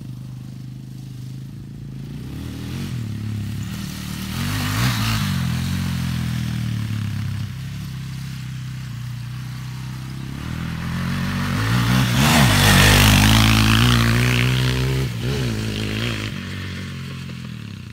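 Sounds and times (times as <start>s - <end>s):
quad bike engine revving: 0.0s - 17.9s.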